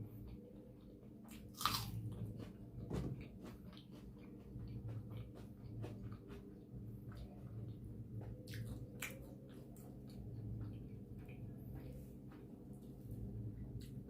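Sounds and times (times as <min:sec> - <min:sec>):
person chewing food: 0:00.0 - 0:14.0
steady low hum: 0:00.0 - 0:14.0.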